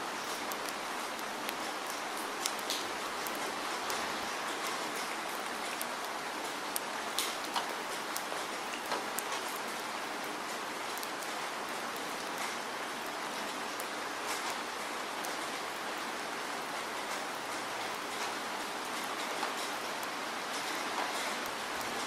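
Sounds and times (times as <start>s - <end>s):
raindrops ticking: 0.1s - 22.0s.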